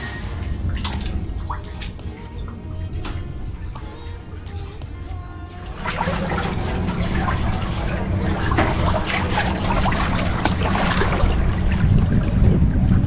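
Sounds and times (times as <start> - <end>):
steady low rumble: 0.0 - 13.0
water splashing and sloshing: 0.0 - 13.0.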